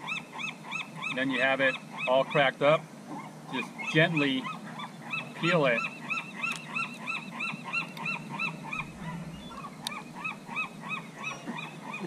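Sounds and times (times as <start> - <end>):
birds honking calls: 0.0 - 12.0.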